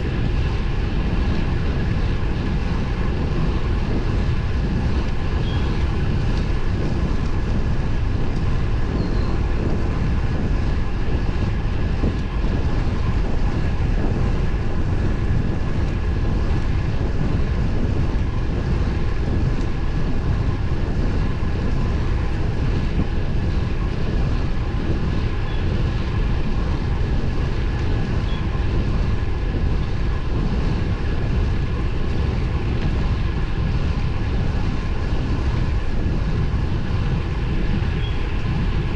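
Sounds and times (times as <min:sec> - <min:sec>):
bicycle road noise: 0:00.0 - 0:38.9
wind rush on microphone: 0:00.0 - 0:38.9.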